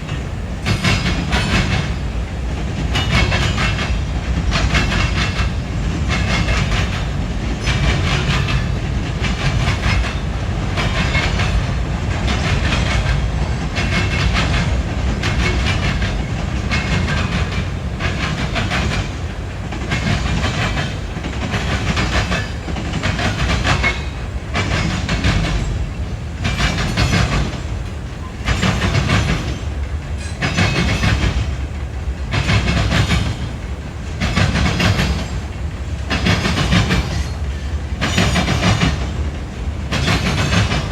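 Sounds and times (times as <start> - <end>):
train cars rumbling past: 0.0 - 40.9
wheels clacking over rail joints: 0.0 - 40.9.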